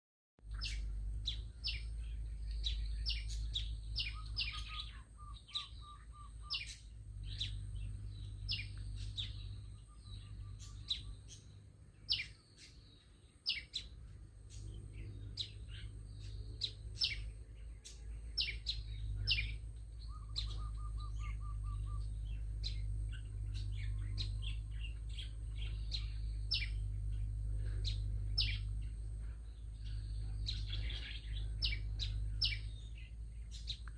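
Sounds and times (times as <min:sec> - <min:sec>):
small bird chirping and trilling: 0:00.4 - 0:33.9
steady low hum: 0:00.4 - 0:33.9.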